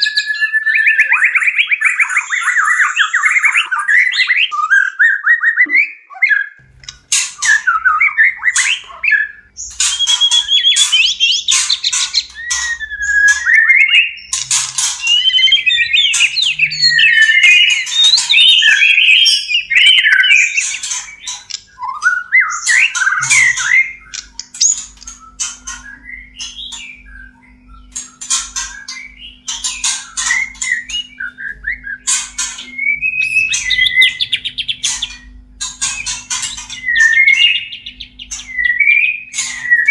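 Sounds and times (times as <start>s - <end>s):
songbirds whistling and clicking: 0.0s - 39.9s.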